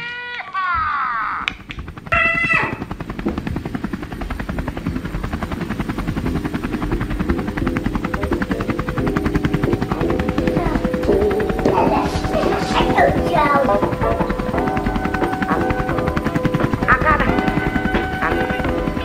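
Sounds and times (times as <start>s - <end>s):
helicopter rotor blades chopping: 0.7s - 19.0s.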